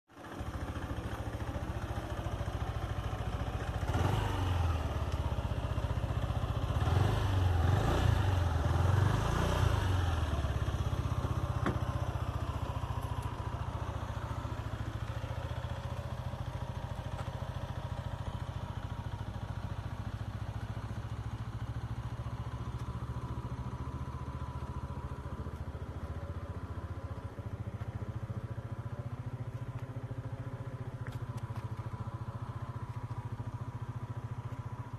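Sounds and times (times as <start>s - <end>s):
engine running with low drone: 0.1s - 34.9s.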